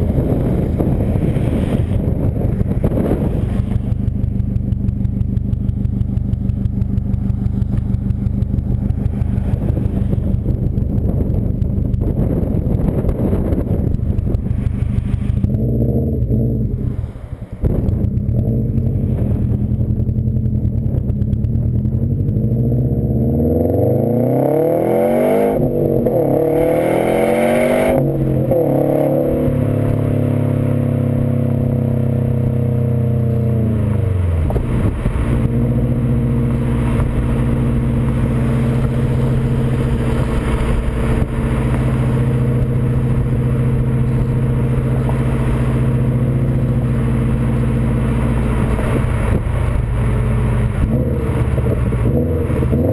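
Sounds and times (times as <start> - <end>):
car engine revving and idling: 0.0 - 52.9.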